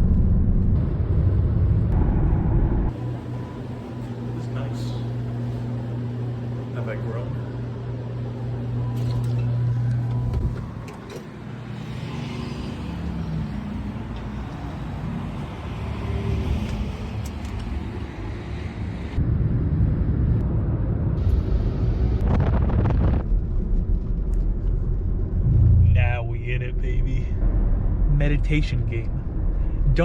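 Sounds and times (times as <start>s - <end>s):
road and tyre noise: 0.0s - 6.6s, 8.3s - 22.2s, 23.6s - 30.0s
car engine hum: 0.0s - 19.2s, 24.3s - 30.0s.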